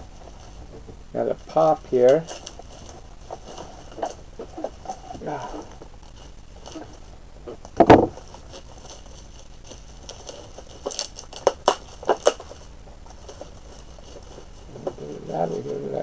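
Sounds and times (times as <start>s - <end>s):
bubble wrap crackles: 0.0s - 16.0s
bubble wrap rustling: 0.0s - 16.0s.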